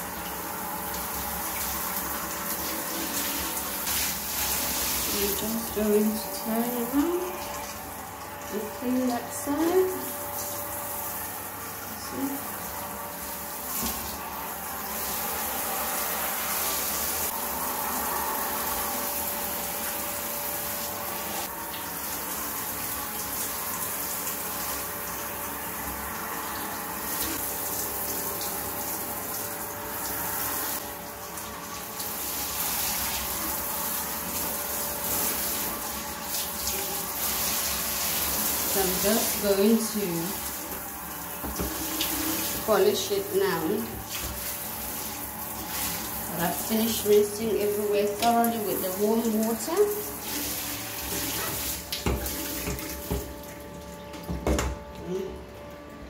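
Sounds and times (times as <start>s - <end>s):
shower spraying water on tiles: 0.0s - 54.7s.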